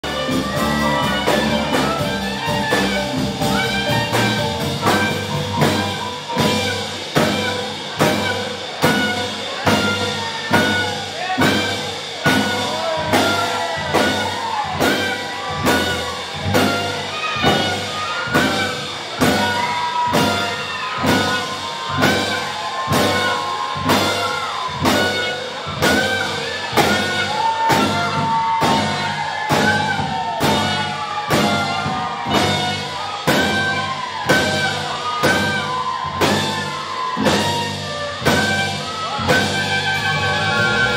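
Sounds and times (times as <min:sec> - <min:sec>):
congas: 0:00.0 - 0:40.9
jazz band playing: 0:00.0 - 0:40.9
saxophone melody: 0:00.0 - 0:40.9.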